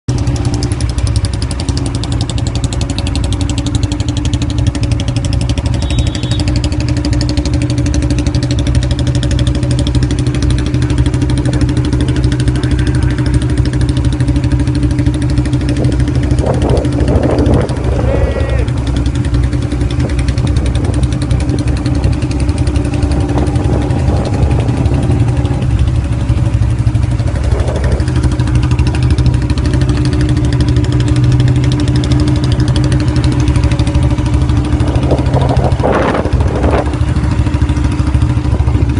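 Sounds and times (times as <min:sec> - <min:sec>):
motorcycle engine idling: 0:00.1 - 0:38.9.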